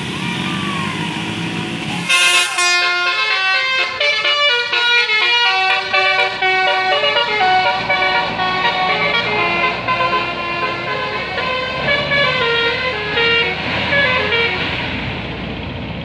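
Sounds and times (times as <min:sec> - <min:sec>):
melodic bus horn: 0:02.0 - 0:15.1.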